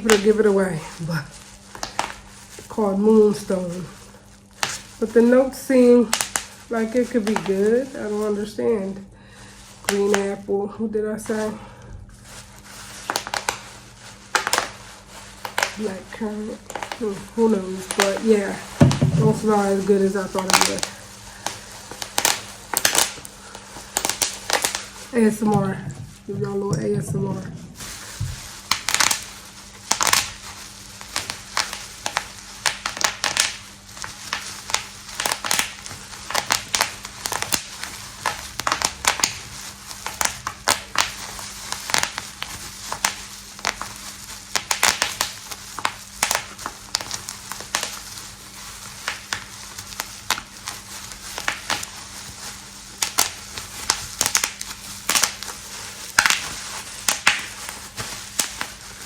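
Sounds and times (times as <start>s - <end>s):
packaging crinkling: 0.0s - 8.6s, 9.2s - 10.4s, 11.2s - 59.0s.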